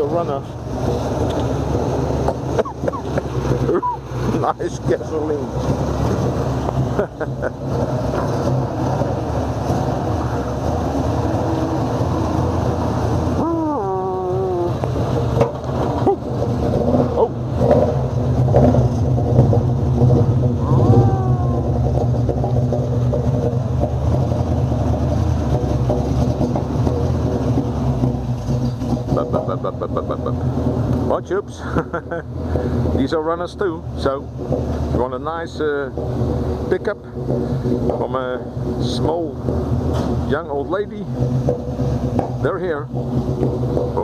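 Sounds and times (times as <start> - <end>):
van engine idling: 0.0 - 44.0.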